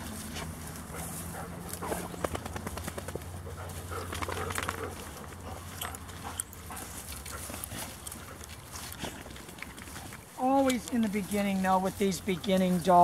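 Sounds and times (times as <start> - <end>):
dogs moving about: 0.0 - 13.0.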